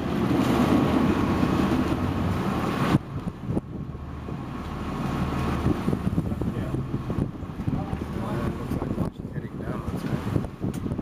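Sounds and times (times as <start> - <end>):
boat engine running: 0.0 - 11.0
wind buffeting microphone: 0.0 - 11.0.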